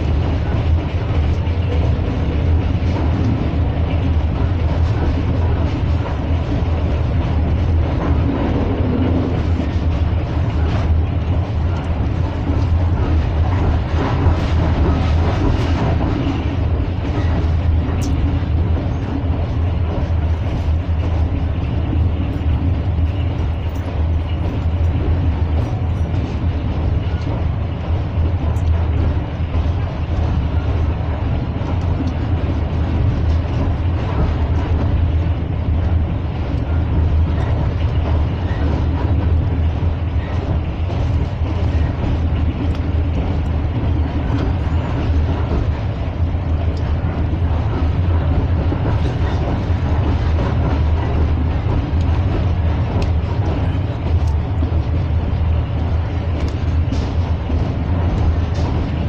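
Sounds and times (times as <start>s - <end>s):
train rumbling on track: 0.0s - 59.0s.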